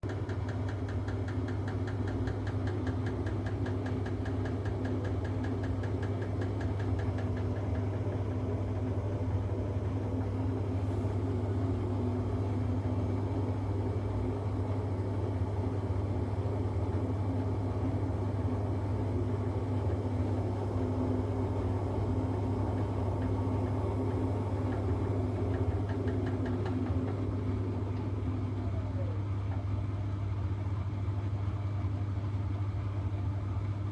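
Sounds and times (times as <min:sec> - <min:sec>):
washing machine humming: 0:00.0 - 0:33.9.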